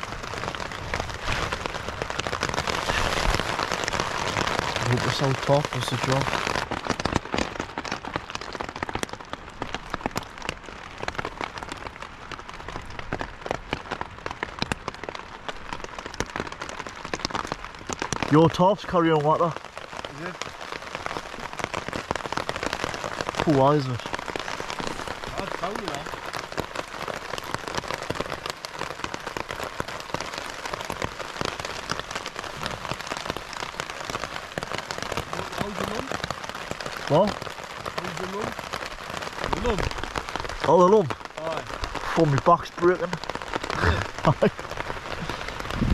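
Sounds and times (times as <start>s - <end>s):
heavy rain on a tarp: 0.0s - 45.9s.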